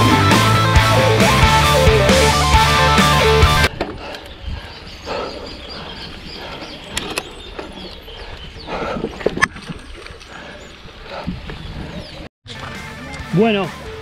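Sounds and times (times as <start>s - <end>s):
outdoor ambience: 0.0s - 13.2s.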